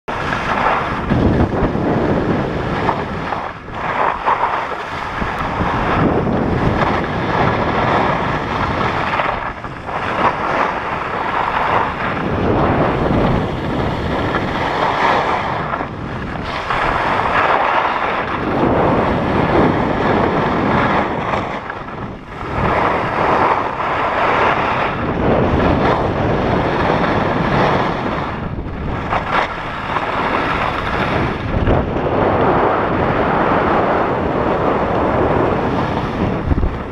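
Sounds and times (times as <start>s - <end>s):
wind on microphone: 0.0s - 36.9s
skis scraping on snow: 0.1s - 36.9s.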